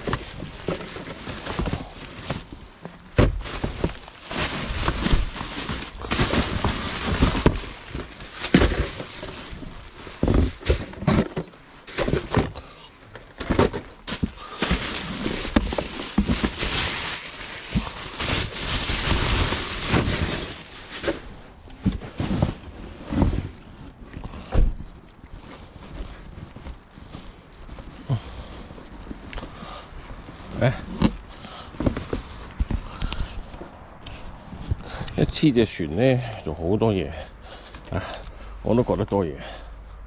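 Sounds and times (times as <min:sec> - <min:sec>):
rustling crackling noise: 0:00.0 - 0:35.8.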